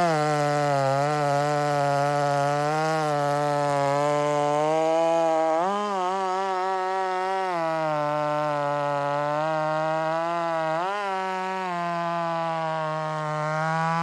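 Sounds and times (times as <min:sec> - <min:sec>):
chainsaw cutting: 0:00.0 - 0:14.0.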